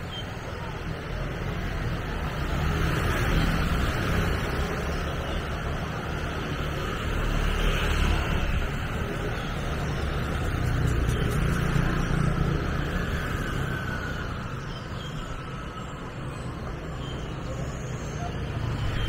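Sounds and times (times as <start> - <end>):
motor vehicle traffic: 0.0 - 19.0.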